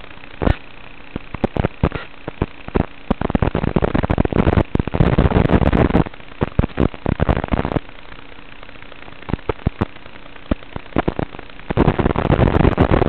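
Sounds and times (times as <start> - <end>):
radio static crackling: 0.0 - 13.0
sharp pops and clicks: 0.4 - 7.8, 9.2 - 13.0.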